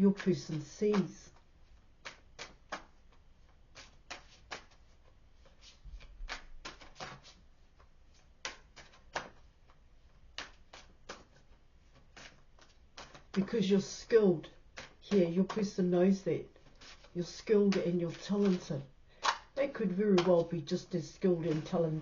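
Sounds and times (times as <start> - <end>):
cards flicking and sliding: 0.2 - 1.2, 2.0 - 22.0.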